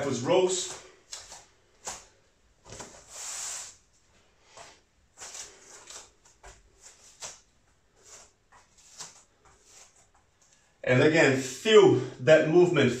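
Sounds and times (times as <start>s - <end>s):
body rustling on floor: 0.1s - 10.7s.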